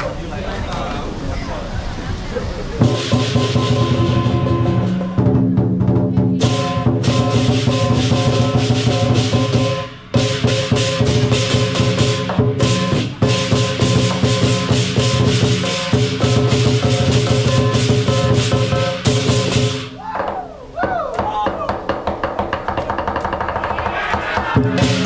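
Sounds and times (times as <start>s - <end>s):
fast dense percussion: 0.4s - 20.3s, 21.4s - 25.0s.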